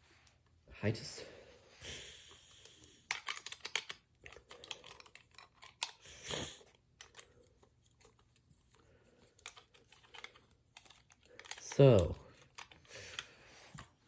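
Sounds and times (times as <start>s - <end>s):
plastic toy parts clicking: 2.5s - 14.0s.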